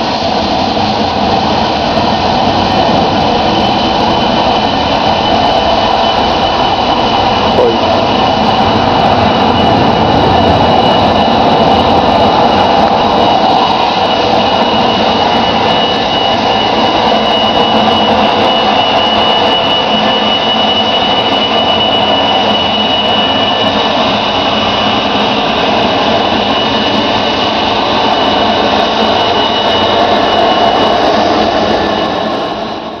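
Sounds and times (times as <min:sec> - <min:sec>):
high-pitched engine whine: 0:00.0 - 0:33.0
jet engines rushing: 0:00.0 - 0:33.0.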